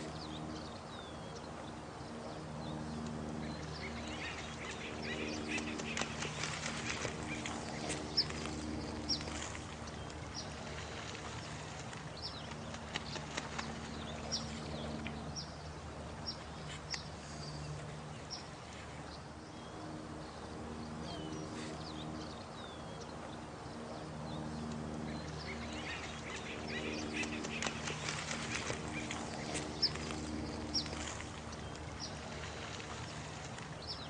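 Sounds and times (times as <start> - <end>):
low droning tones: 0.0 - 34.0
running water: 0.0 - 34.0.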